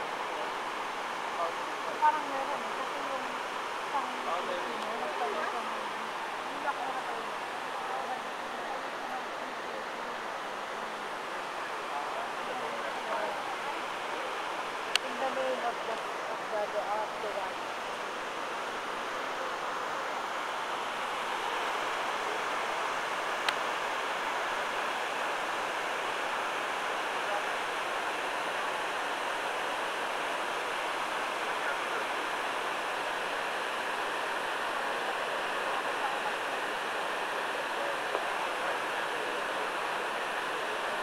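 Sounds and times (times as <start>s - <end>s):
waterfall rushing into basin: 0.0s - 41.0s.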